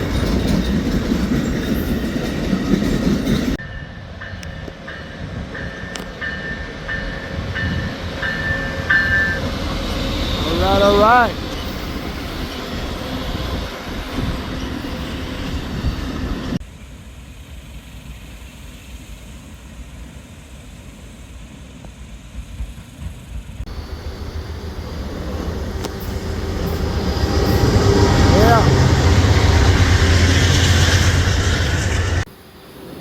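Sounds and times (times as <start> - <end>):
passing train rumble: 0.0 - 33.0.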